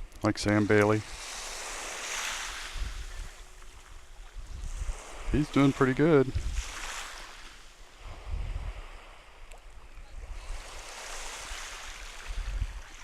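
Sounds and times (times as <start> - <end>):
small waves washing on beach: 0.0 - 13.0
wind buffeting microphone: 0.0 - 13.0.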